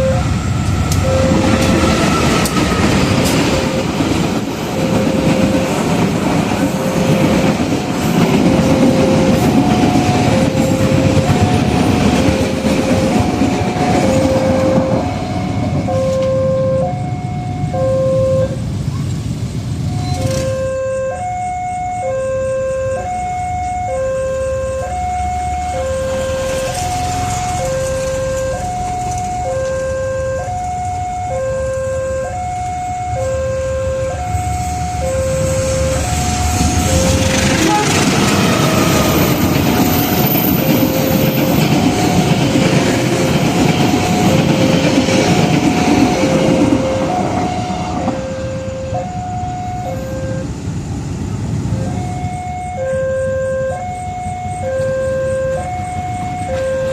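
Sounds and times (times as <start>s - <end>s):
level crossing alarm two-tone: 0.0s - 18.6s, 19.9s - 50.6s, 51.7s - 56.9s
passing train rumble: 0.0s - 56.9s.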